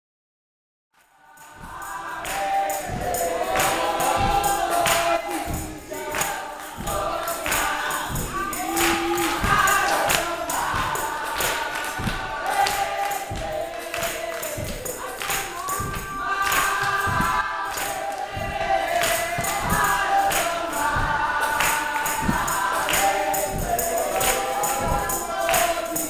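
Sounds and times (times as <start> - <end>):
choir and congregation singing hymn: 1.0 - 26.0
hand claps: 1.0 - 26.0.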